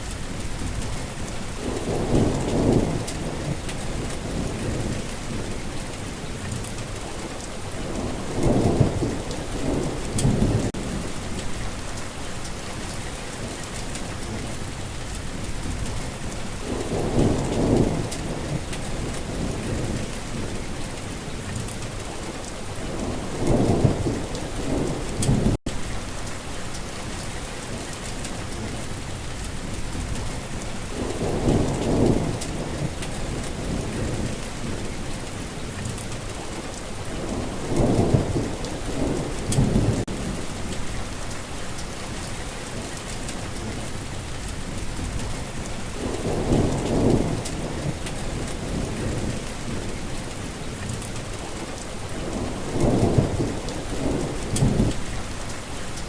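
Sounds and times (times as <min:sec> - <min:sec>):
thunder rumbling: 0:00.0 - 0:12.0, 0:12.7 - 0:56.0
heavy rain: 0:00.0 - 0:56.0.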